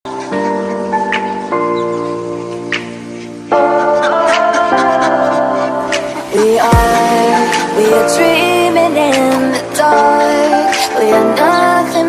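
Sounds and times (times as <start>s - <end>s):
background music chords: 0.1s - 12.0s.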